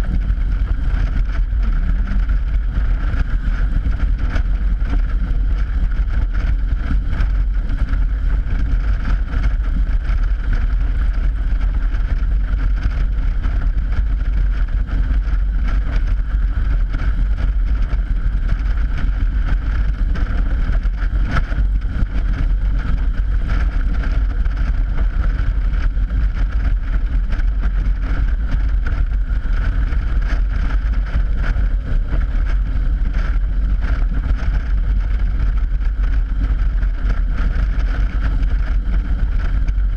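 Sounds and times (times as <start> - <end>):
motorcycle tires humming on steel grates: 0.0 - 39.9
wind buffeting microphone: 0.0 - 39.9.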